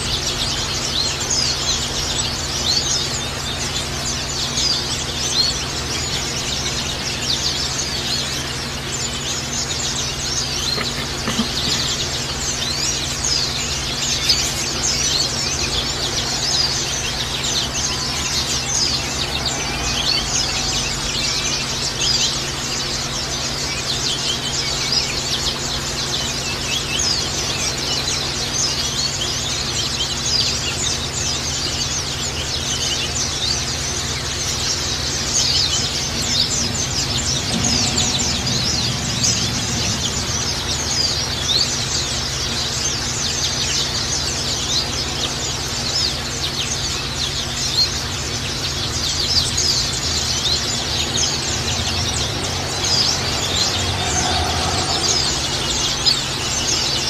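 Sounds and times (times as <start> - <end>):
small birds twittering: 0.0 - 57.0.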